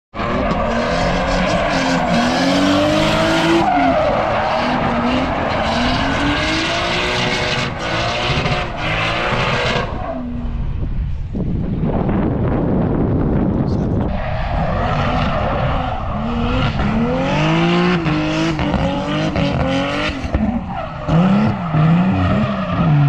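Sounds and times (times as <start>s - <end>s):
car engine revving: 0.2s - 10.8s, 14.3s - 23.0s.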